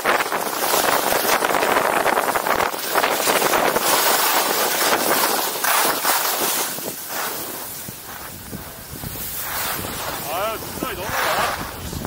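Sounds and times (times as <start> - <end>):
wind rushing over microphone: 0.0 - 12.0
skis scraping over snow: 0.1 - 12.0.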